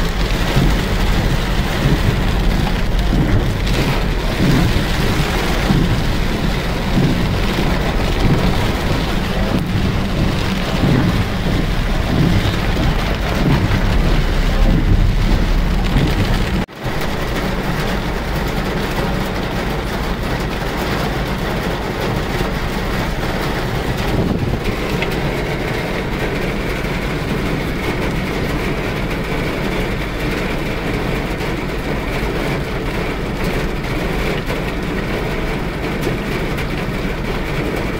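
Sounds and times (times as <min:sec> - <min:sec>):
heavy rain falling: 0:00.0 - 0:37.9
vehicle engines in traffic: 0:00.0 - 0:37.9.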